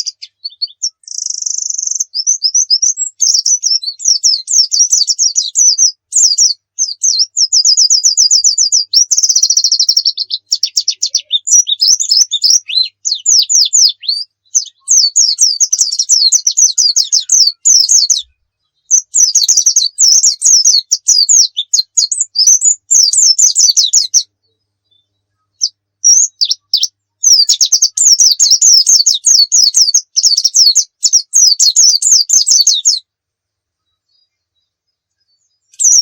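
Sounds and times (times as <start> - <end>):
bird singing fast high chirps: 0.0 - 33.0, 35.4 - 36.0.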